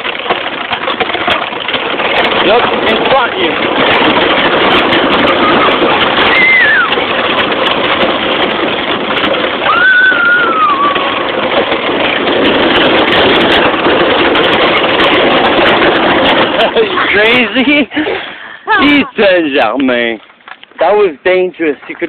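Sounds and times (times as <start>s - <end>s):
ride-on toy tractor running: 0.0s - 22.0s.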